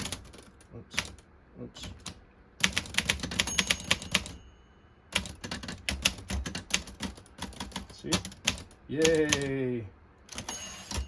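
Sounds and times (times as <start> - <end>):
manual typewriter typing: 0.0 - 1.2, 1.8 - 4.4, 5.1 - 9.5, 10.3 - 11.0.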